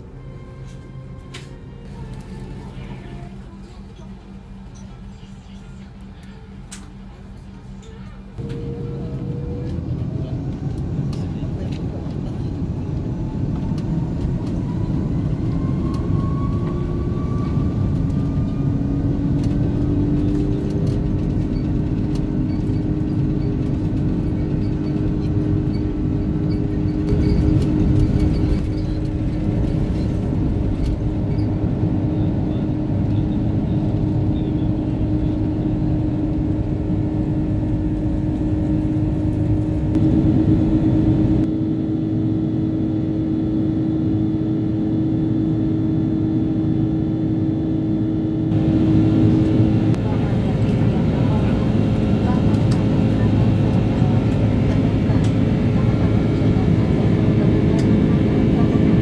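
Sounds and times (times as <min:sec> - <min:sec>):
jet engine whine: 0:00.0 - 0:59.0
low rumble: 0:00.0 - 0:59.0.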